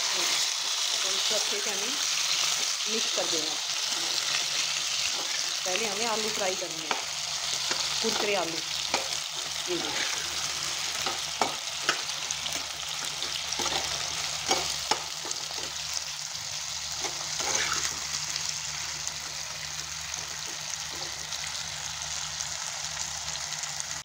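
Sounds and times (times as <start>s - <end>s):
potatoes sizzling in oil: 0.0s - 24.0s.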